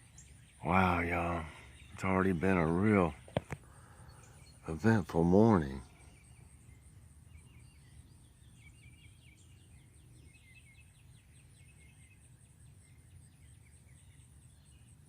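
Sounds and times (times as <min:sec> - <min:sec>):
distant bird chirping: 0:00.0 - 0:15.0.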